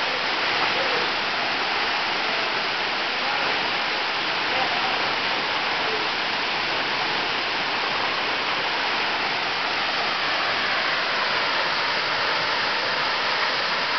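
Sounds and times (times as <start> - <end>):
waterfall roaring: 0.0 - 13.9.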